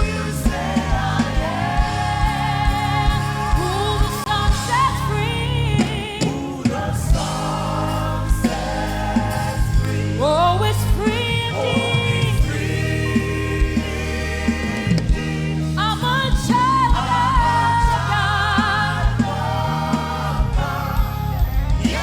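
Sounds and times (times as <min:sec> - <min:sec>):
live band with bass: 0:00.0 - 0:22.0
singers with vibrato: 0:00.0 - 0:22.0
steady kick drum beat: 0:00.0 - 0:22.0.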